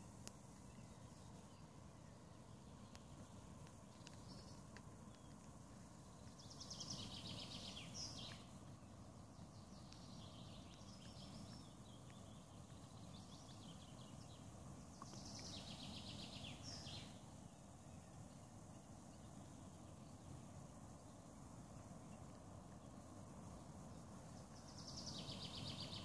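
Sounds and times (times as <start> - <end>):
faint low rumble: 0.0 - 26.0
songbird singing trills: 0.0 - 26.0.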